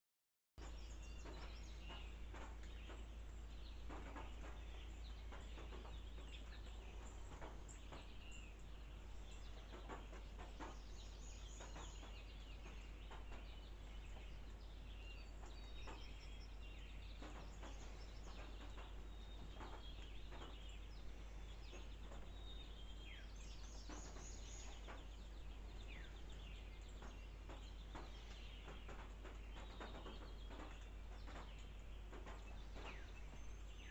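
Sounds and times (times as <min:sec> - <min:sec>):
birds chirping and calling: 0:00.6 - 0:33.9
steady low rumble: 0:00.6 - 0:33.9.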